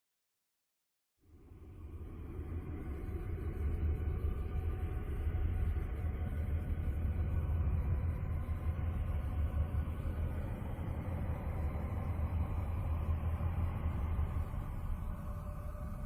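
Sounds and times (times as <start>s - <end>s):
deep rumbling drone: 1.6s - 16.0s.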